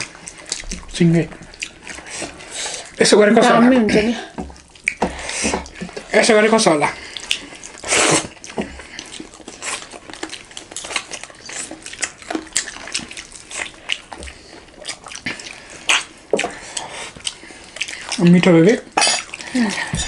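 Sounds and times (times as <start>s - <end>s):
people chewing crispy chicken: 0.0s - 20.0s.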